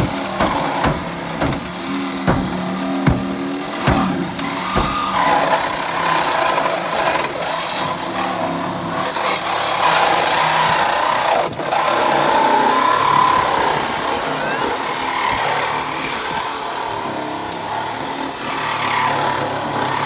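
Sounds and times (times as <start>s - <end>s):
engine hum: 0.0s - 20.0s
hydraulic tool whine: 0.0s - 20.0s.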